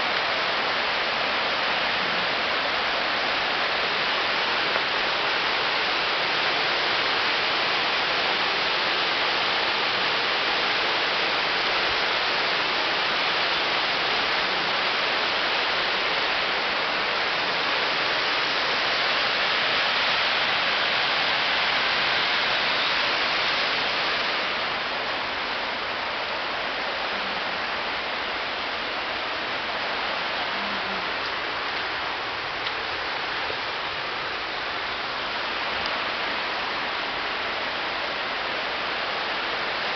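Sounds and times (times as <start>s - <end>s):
rushing running water: 0.0s - 39.9s.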